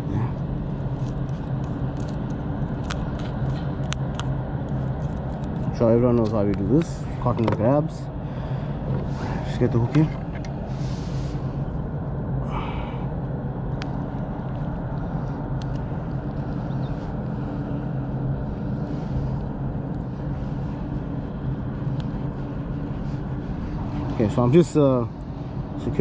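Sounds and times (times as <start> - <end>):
low mechanical drone: 0.0 - 26.0.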